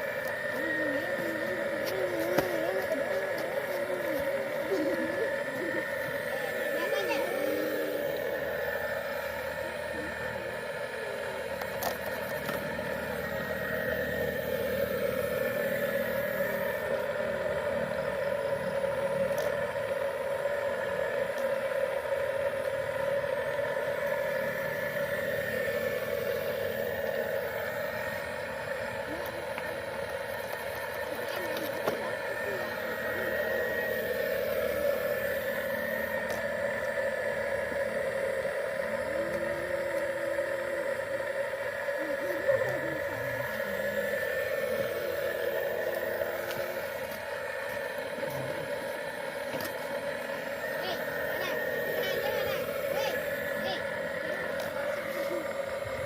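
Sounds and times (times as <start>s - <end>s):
toy vehicle motor whine: 0.0s - 56.0s.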